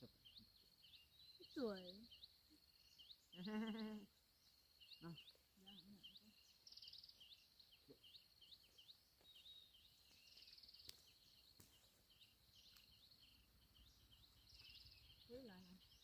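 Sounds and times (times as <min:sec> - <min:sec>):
high insect trill: 0:00.0 - 0:16.0.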